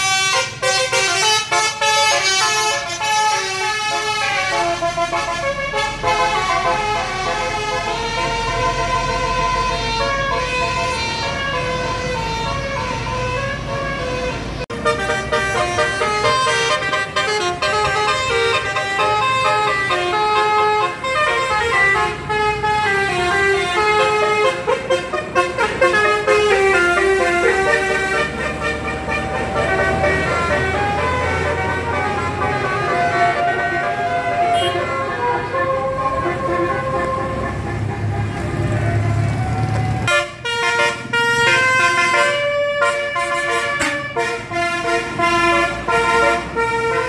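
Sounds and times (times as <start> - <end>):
tuned air horns playing tunes: 0.0 - 39.1, 40.0 - 47.0.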